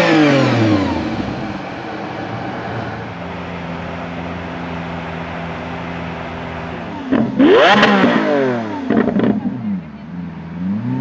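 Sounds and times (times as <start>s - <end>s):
sports car engine idling: 0.0s - 11.0s
sports car engine revving: 0.0s - 11.0s.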